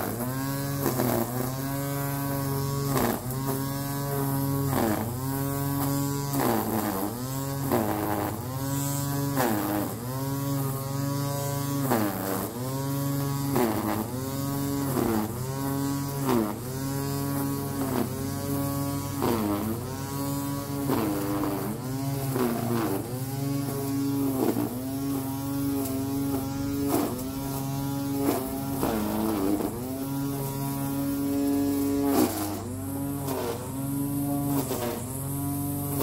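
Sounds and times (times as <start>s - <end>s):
electric motor running: 0.0s - 36.0s.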